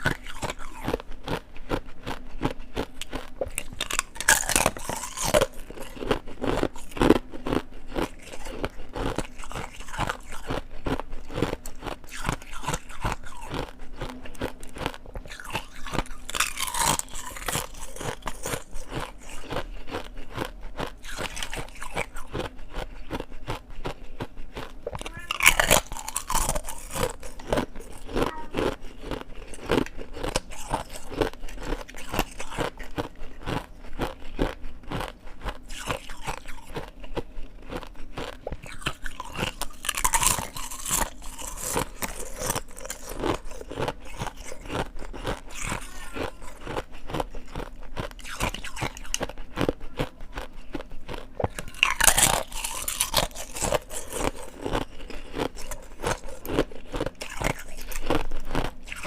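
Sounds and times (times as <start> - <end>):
ice crunching and chewing: 0.0 - 59.0.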